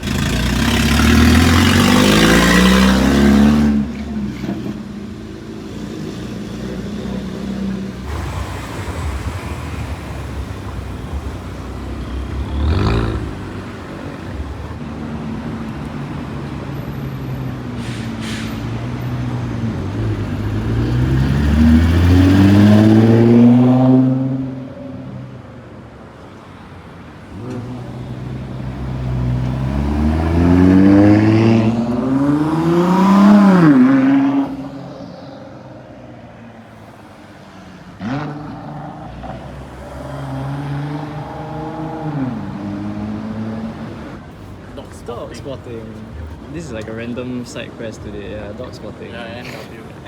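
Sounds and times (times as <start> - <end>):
car engines accelerating past: 0.0 - 25.4, 27.2 - 44.3.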